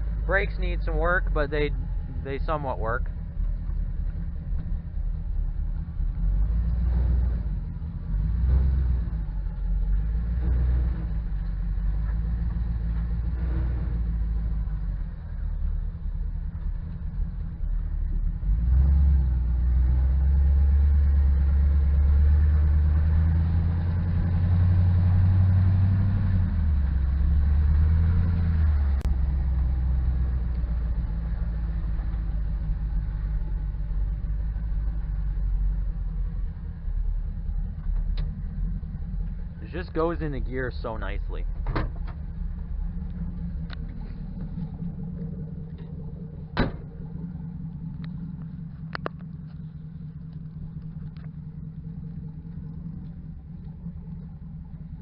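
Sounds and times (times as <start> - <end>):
truck engine rumbling: 0.0 - 55.0.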